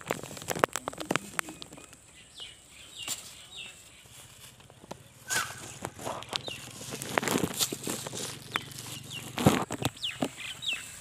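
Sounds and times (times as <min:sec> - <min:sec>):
rustling of plants: 0:00.0 - 0:11.0
bird chirping: 0:01.2 - 0:11.0.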